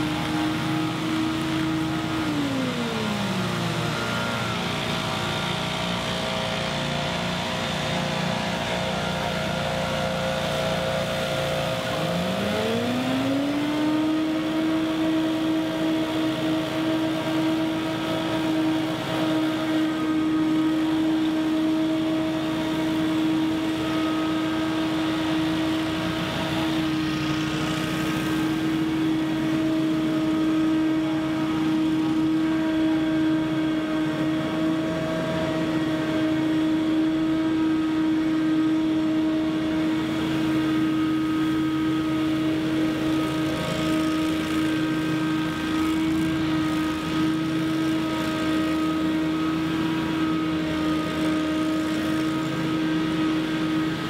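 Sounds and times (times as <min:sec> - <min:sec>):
leaf blowers droning: 0:00.0 - 0:54.0.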